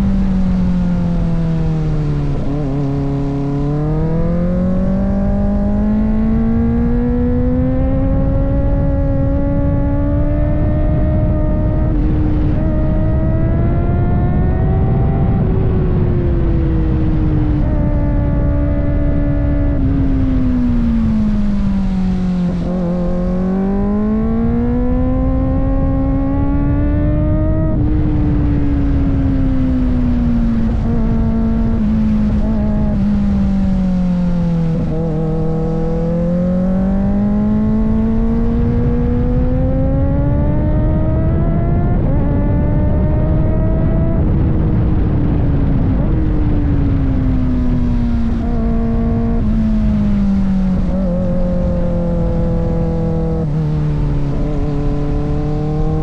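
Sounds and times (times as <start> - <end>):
motorcycle engine revving: 0.0 - 56.0
wind and road noise: 0.0 - 56.0.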